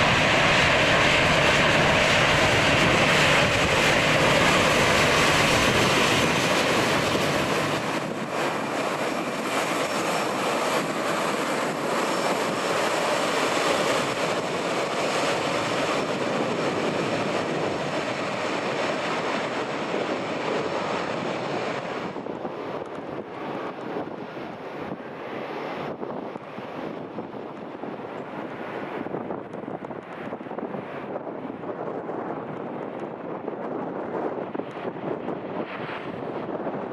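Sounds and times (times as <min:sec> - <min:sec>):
jet engines rushing and whining: 0:00.0 - 0:36.9
wind on microphone: 0:00.0 - 0:36.9.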